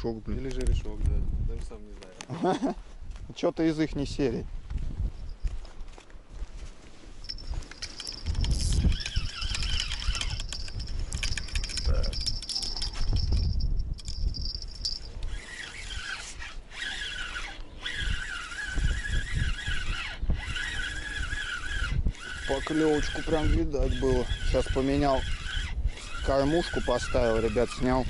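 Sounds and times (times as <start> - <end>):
wind buffeting microphone: 0.0 - 2.2, 2.9 - 28.0.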